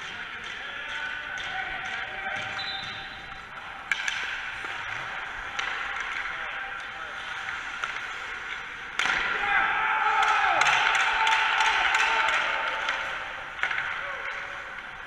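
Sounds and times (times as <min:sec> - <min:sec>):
sticks and pucks clacking: 0:00.0 - 0:15.0.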